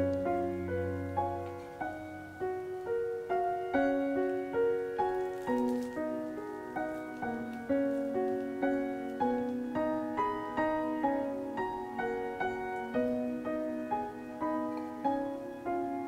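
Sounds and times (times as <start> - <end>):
gentle solo piano music: 0.0 - 16.0.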